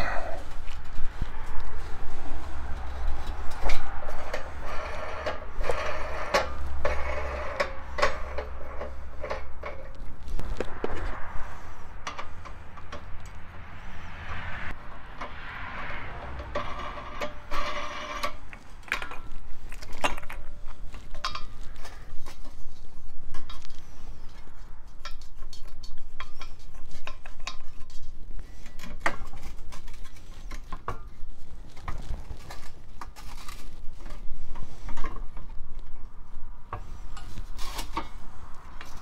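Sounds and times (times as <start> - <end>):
metal and rubber scraping: 0.0 - 39.0
road traffic rumble: 0.0 - 39.0.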